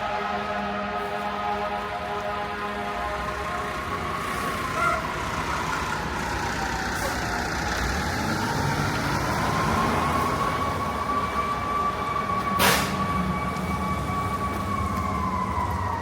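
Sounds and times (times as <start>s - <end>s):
vehicles passing with low rumble: 0.0s - 16.0s.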